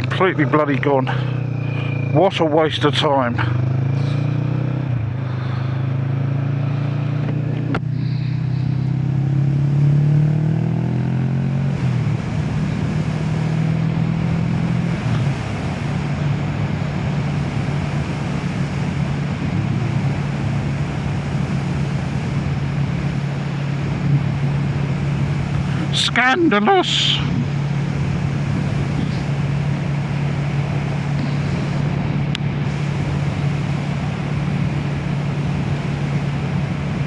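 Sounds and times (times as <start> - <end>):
motorcycle engine revving: 0.0 - 37.0
road and wind rush: 0.0 - 37.0.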